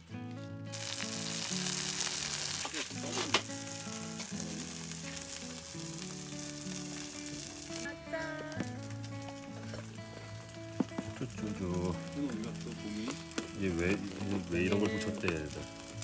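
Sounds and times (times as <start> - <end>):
pancake sizzling in hot oil: 0.6 - 7.9, 8.6 - 16.0.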